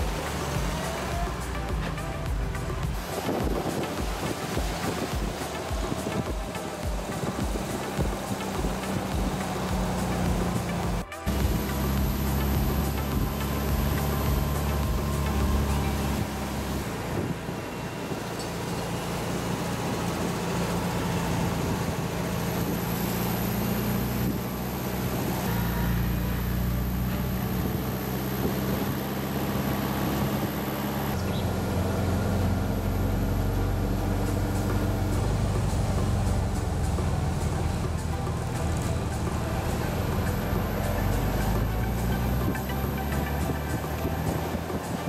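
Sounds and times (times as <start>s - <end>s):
car engines running: 0.0s - 45.0s
road and wind noise: 0.0s - 45.0s.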